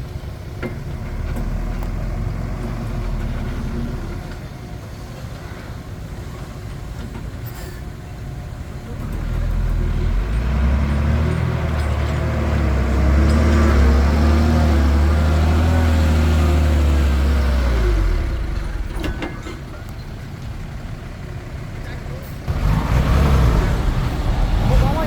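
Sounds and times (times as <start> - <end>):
bulldozer diesel engine under load: 0.0 - 25.0.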